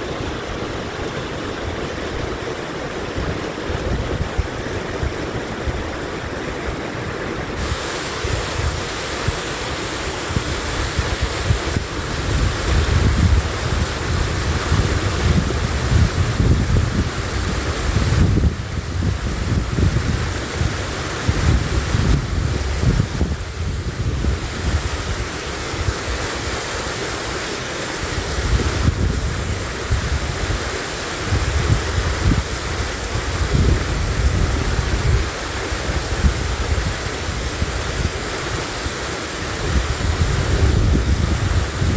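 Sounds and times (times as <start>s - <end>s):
stream rushing over rocks: 0.0s - 41.9s
wind gusting on microphone: 0.0s - 41.9s.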